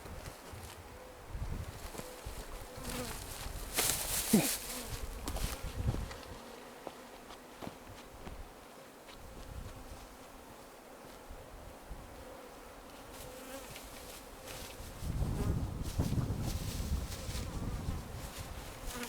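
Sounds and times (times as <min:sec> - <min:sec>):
honeybees buzzing: 0:00.4 - 0:19.0.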